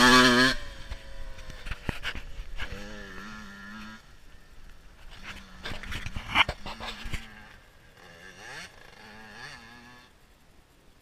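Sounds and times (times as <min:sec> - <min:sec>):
dirt bike engine revving: 0:00.0 - 0:10.4.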